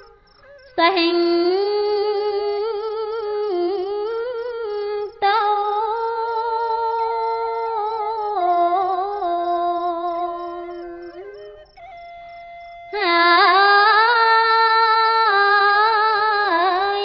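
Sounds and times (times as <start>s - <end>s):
woman chanting: 0.0s - 11.4s, 12.9s - 17.0s.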